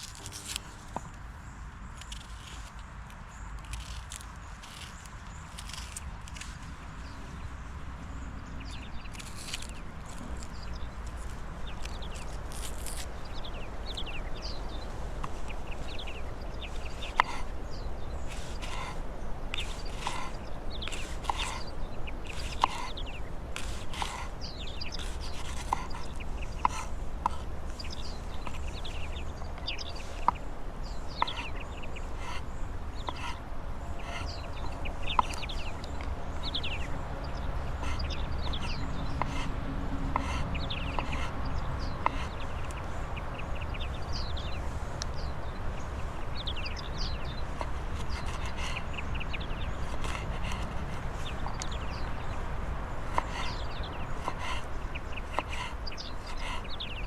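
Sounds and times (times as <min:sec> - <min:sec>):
birds chirping: 0:00.0 - 0:57.0
steady low rumble: 0:00.0 - 0:57.0.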